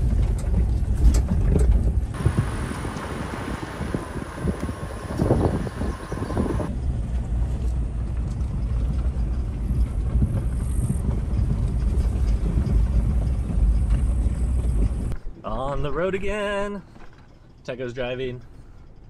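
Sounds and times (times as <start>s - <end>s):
car engine rumble: 0.0s - 15.4s
tyres rolling on gravel: 0.0s - 18.7s.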